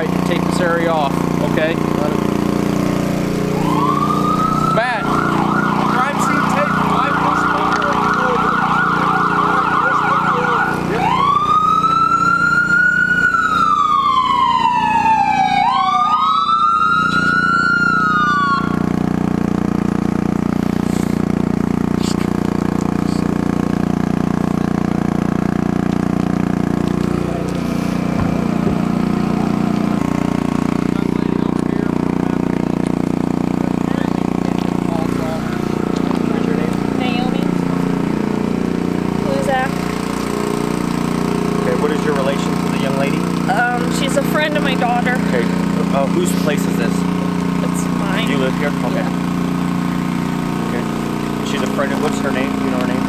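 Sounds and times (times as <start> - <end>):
low engine hum: 0.0 - 53.0
emergency vehicle siren: 1.8 - 21.4, 23.1 - 53.0.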